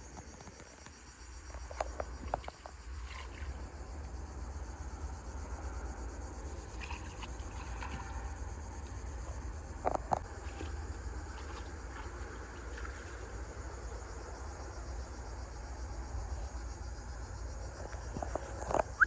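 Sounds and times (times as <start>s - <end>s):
insects chirring: 0.0s - 19.0s
low constant rumble: 0.0s - 19.0s.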